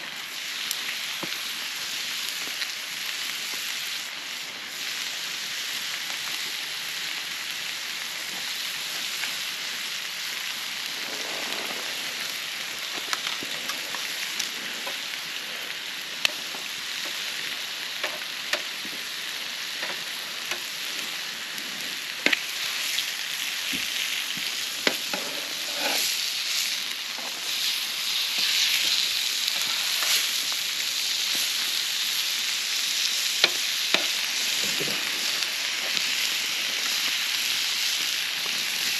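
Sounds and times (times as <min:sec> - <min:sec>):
burger patties sizzling: 0:00.0 - 0:38.9.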